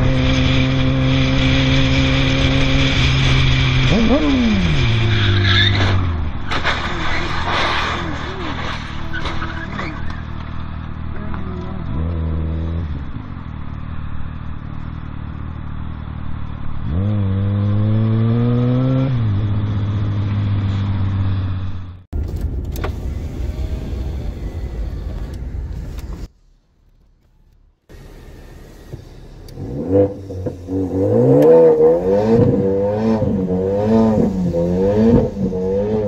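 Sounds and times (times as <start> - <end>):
motorcycle engine revving: 0.0 - 22.1, 27.9 - 36.0
car road rumble: 0.0 - 36.0
wind and road noise: 0.0 - 36.0.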